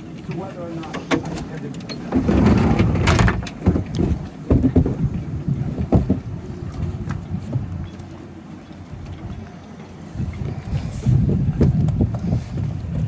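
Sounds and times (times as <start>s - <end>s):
wind buffeting microphone: 2.1s - 13.0s.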